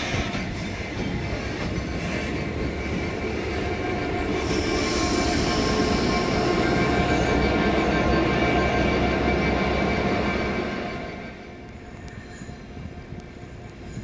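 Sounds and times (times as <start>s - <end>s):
locomotive running: 0.0s - 14.0s.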